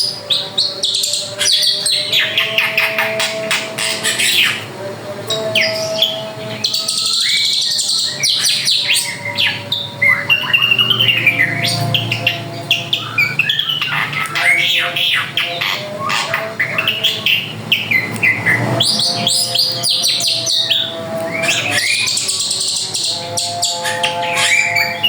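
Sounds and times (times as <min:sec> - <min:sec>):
bird singing varied song: 0:00.0 - 0:25.0.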